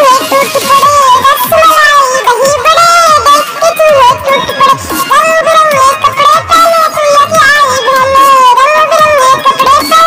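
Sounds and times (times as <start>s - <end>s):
high-pitched sung voice over music: 0.0s - 10.0s.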